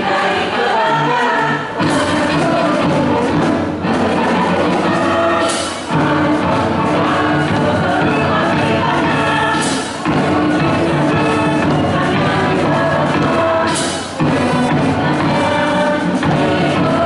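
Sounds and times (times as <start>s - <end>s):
choir singing with accompaniment: 0.0s - 17.0s.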